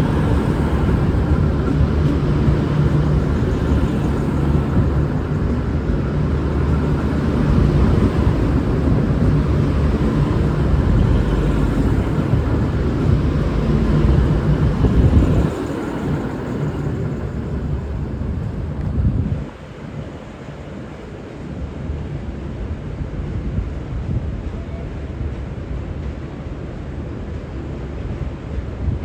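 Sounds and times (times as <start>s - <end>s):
train diesel engines rumbling: 0.0s - 29.0s.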